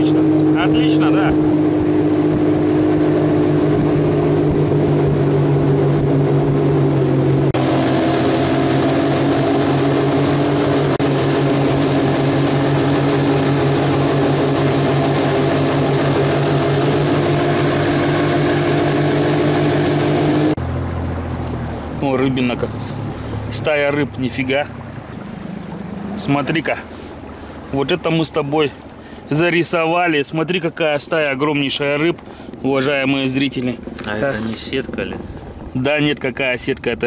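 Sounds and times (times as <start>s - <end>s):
outboard motor running: 0.0s - 37.0s
wind and water hiss: 0.0s - 37.0s.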